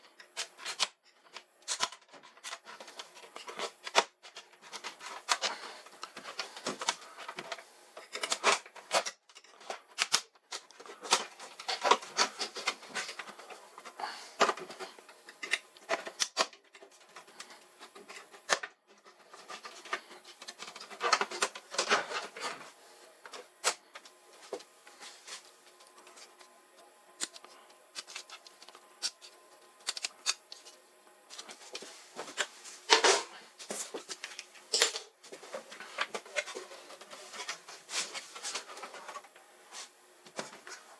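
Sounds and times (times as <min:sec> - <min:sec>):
parts and tools scraping: 0:00.0 - 0:26.5, 0:27.2 - 0:40.9.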